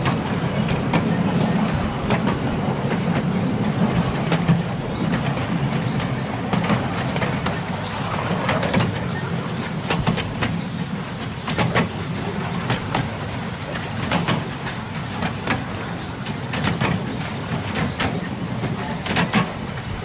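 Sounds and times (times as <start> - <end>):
locomotive engine drone: 0.0 - 20.0
wheels clicking over rail joints: 0.0 - 20.0.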